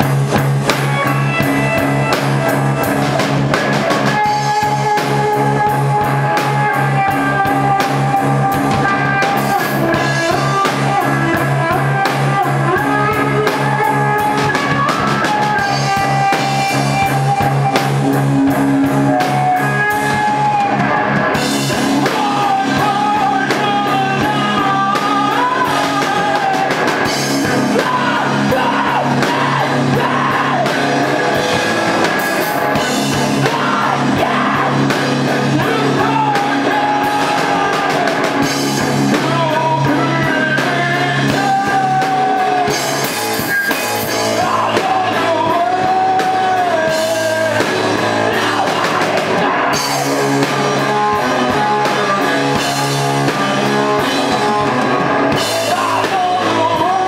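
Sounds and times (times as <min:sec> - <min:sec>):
distorted electric guitar: 0:00.0 - 0:57.0
drum kit: 0:00.0 - 0:57.0
person singing and yelling: 0:00.0 - 0:57.0.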